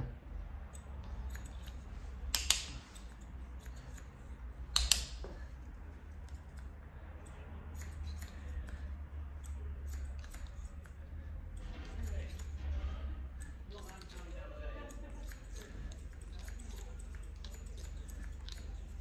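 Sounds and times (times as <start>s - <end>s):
scissors snipping hair: 0.6s - 19.0s.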